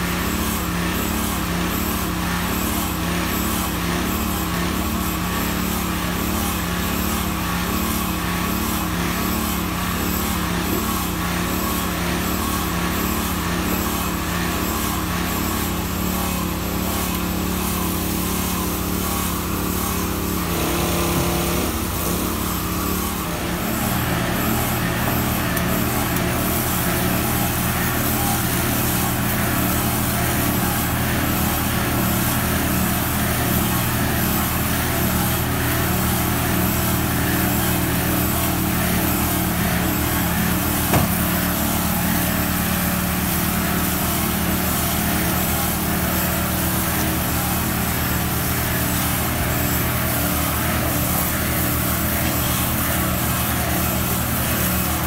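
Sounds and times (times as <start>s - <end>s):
tractor diesel engine running: 4.4s - 55.0s.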